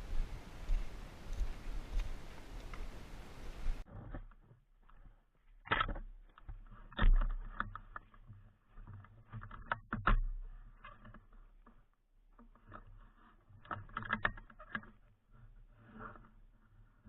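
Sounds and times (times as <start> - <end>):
rustling and clicking of gear: 0.0 - 17.0.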